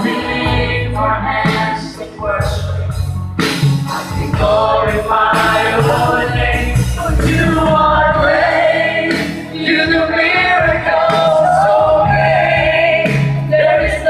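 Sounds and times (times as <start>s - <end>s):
group singing worship song: 0.0s - 14.0s
musical backing: 0.0s - 14.0s.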